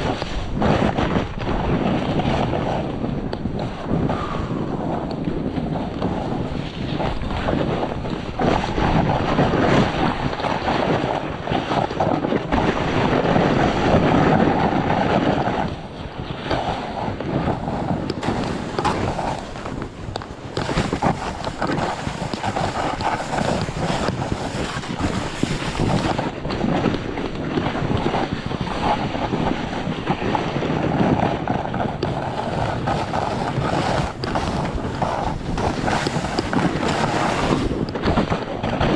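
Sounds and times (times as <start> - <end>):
snowboard carving through snow: 0.0 - 38.9
wind rushing over microphone: 0.0 - 38.9.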